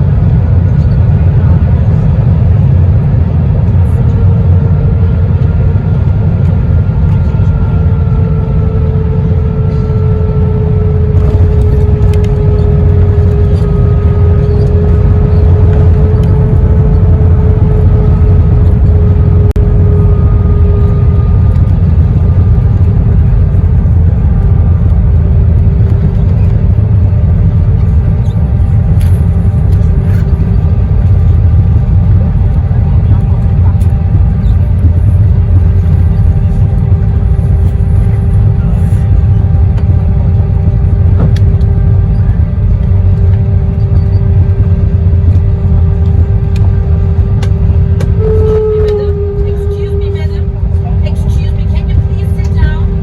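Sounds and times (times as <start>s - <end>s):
airplane cabin jet rumble: 0.0s - 53.0s.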